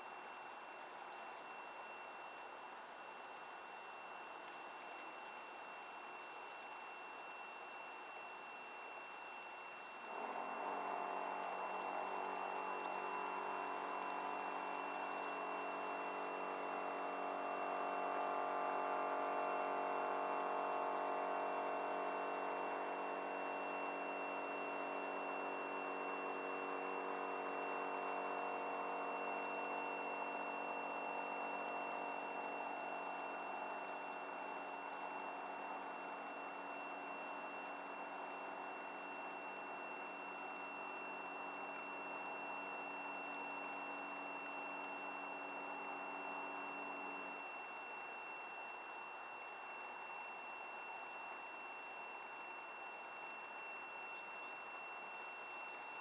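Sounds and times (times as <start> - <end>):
engine running steadily: 9.8 - 56.0.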